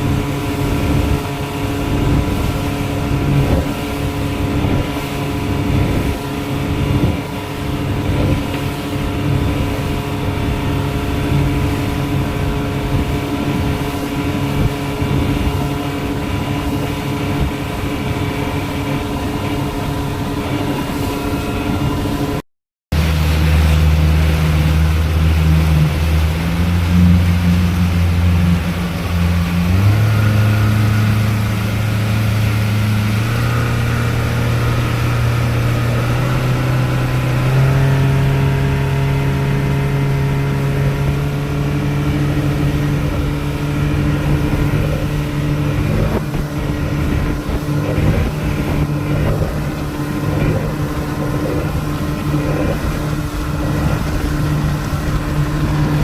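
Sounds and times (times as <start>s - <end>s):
hull slamming into waves: 0.0s - 56.0s
rushing water and wind: 0.0s - 56.0s
speedboat engine running: 0.0s - 56.0s.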